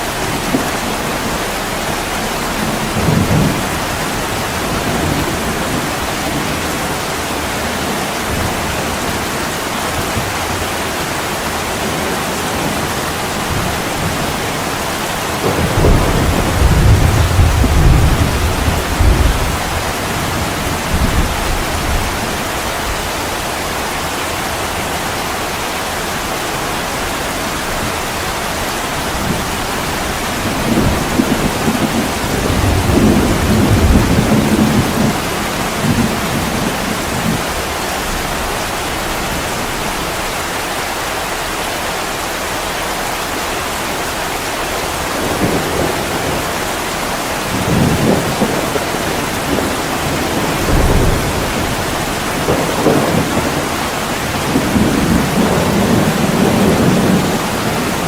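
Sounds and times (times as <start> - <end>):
thunder rumbling: 0.0 - 41.0, 42.6 - 58.0
heavy rain pouring: 0.0 - 58.0.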